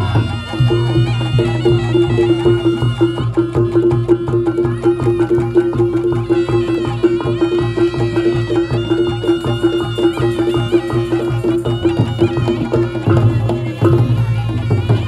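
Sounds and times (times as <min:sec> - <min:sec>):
drums: 0:00.0 - 0:15.0
shrill reed pipe melody: 0:00.0 - 0:15.0.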